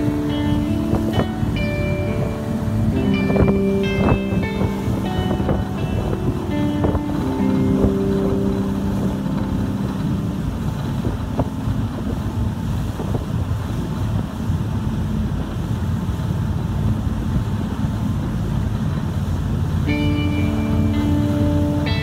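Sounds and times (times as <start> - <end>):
ferry engine rumble: 0.0 - 22.0
wind buffeting microphone: 0.0 - 22.0.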